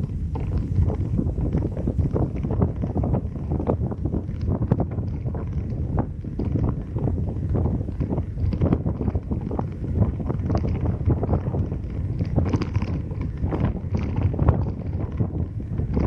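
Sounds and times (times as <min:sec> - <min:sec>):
low road rumble: 0:00.0 - 0:16.0
wind buffeting microphone: 0:00.0 - 0:16.0.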